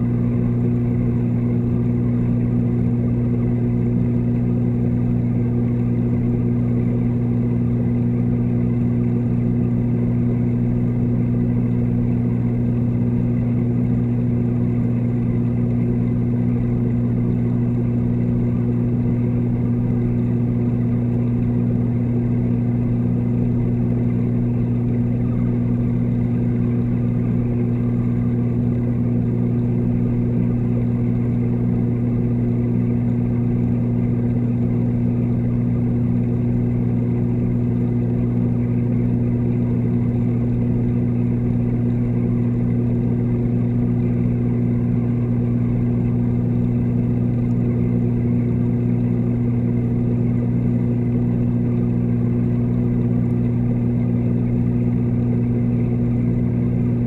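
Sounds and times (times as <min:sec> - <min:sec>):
water pump electric hum: 0:00.0 - 0:57.0.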